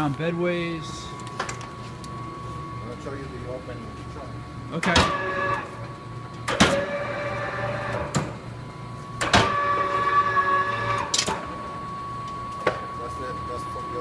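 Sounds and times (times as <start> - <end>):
steady high whine: 0.0 - 14.0.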